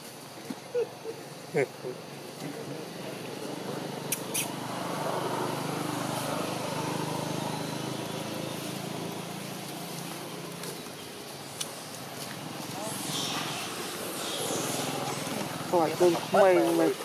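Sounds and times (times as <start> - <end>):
distant engine hum: 0.7 - 17.0.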